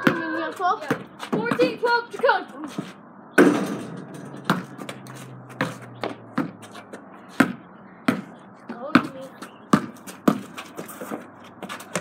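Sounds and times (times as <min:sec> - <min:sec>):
basketball bouncing on hard ground: 0:00.0 - 0:12.0.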